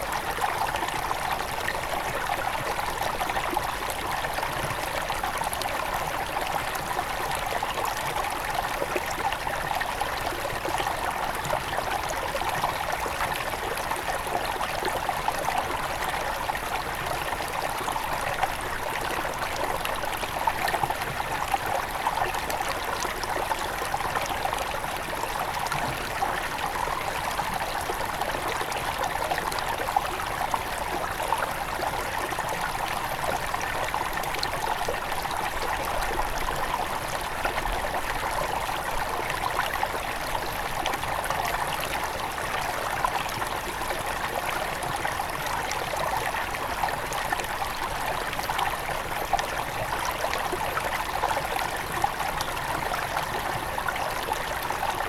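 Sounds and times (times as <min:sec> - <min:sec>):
river trickling over stones: 0:00.0 - 0:55.0.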